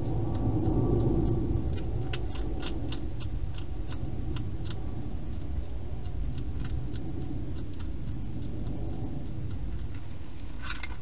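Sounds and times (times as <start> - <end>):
hedgehog clicking while feeding: 0.0 - 11.0
steady low rumble: 0.0 - 11.0.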